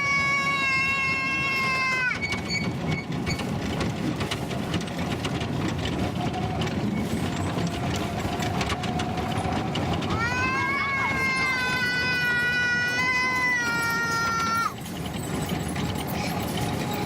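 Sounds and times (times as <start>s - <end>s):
train wheel squeal: 0.0s - 4.0s, 4.8s - 17.0s
train cars rattling over track: 0.0s - 17.0s.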